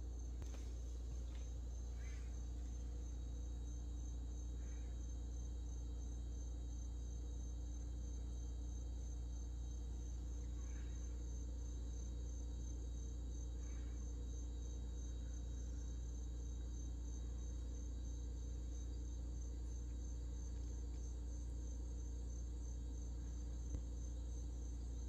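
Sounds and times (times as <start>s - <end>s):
insects chirping: 0.0s - 25.0s
steady low hum: 0.0s - 25.0s.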